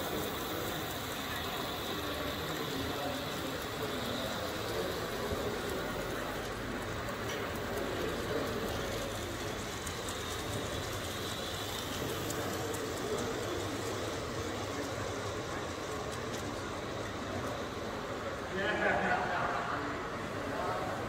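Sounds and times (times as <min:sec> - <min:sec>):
model locomotive running on track: 0:00.0 - 0:21.0
steady background noise: 0:00.0 - 0:21.0.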